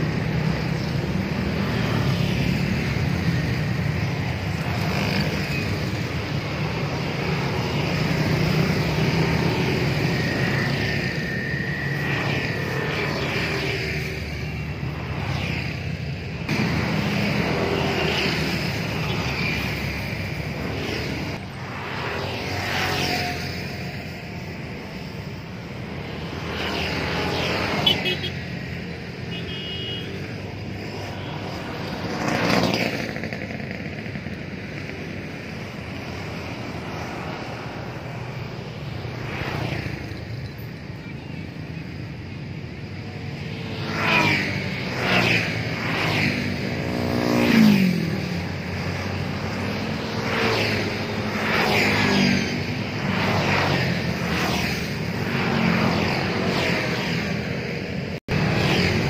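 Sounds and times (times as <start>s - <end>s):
motorcycles and cars passing: 0.0s - 59.0s
steady traffic hum: 0.0s - 59.0s.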